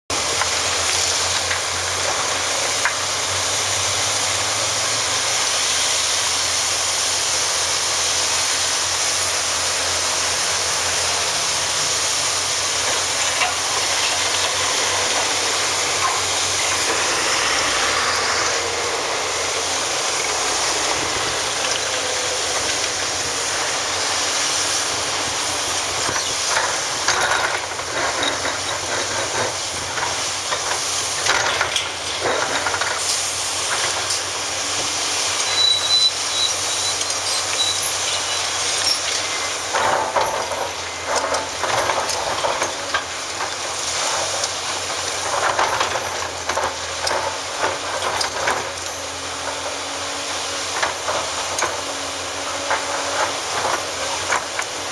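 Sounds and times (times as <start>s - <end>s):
excavator engine and hydraulics: 0.1s - 54.9s.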